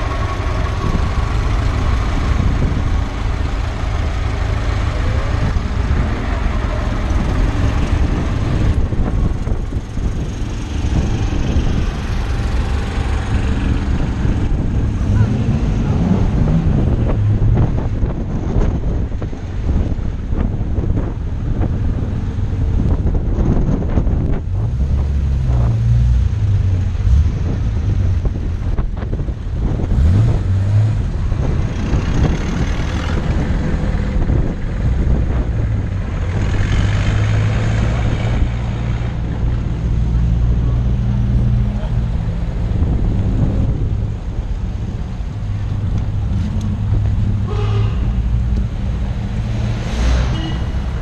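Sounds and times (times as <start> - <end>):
cars driving past on cobblestones: 0.0 - 51.0
wind rumble on microphone: 0.0 - 51.0.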